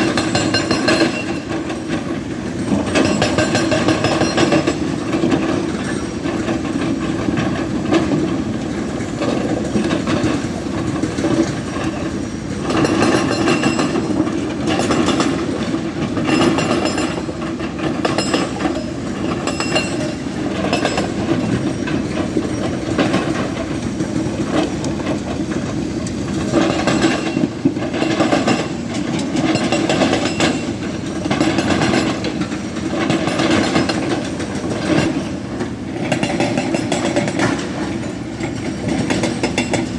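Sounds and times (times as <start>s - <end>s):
excavator engine running: 0.0s - 39.9s
hydraulic rock breaker hammering: 0.0s - 39.9s.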